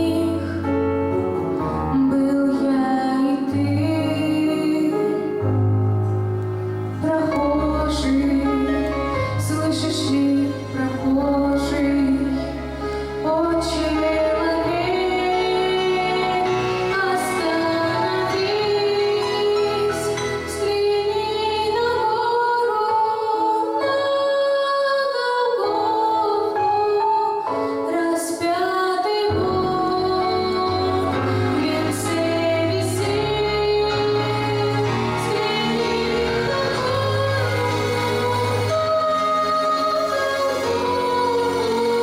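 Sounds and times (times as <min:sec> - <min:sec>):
woman singing: 0:00.0 - 0:01.2, 0:01.9 - 0:05.6, 0:07.0 - 0:42.0
instrumental accompaniment: 0:00.0 - 0:24.5, 0:25.6 - 0:42.0.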